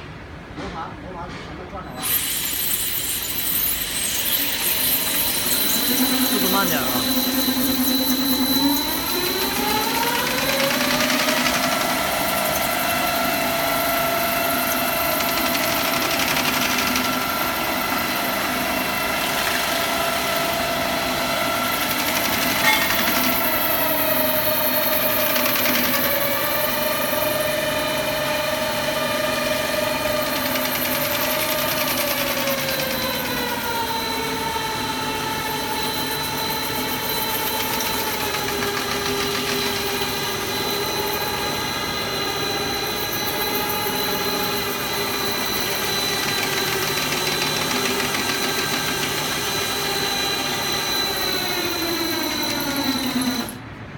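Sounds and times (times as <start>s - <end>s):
floor grinder motors whining: 2.0s - 53.9s.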